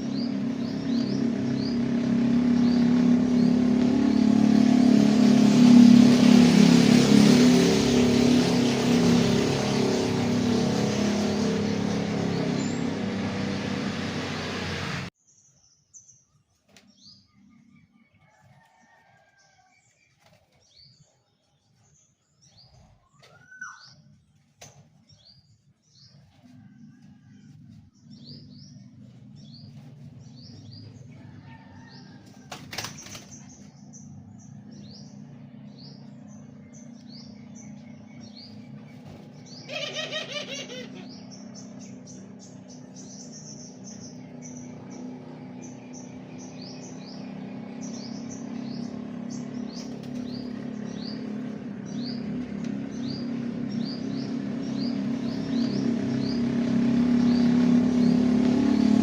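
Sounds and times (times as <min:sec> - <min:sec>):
caged birds chirping: 0:00.0 - 0:59.0.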